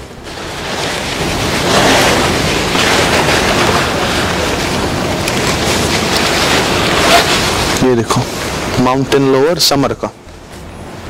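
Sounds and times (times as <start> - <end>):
fabric rustling against microphone: 0.0 - 11.0.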